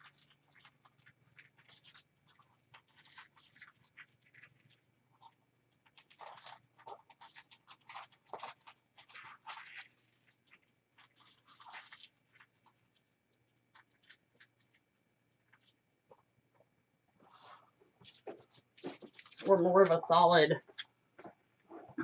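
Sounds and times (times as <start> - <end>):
ribbon rustling and crinkling: 0.0 - 16.2, 17.2 - 20.0.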